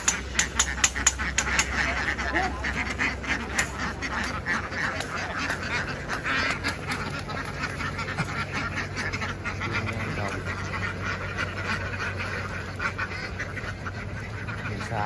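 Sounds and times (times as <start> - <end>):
flock of ducks quacking: 0.0 - 15.0.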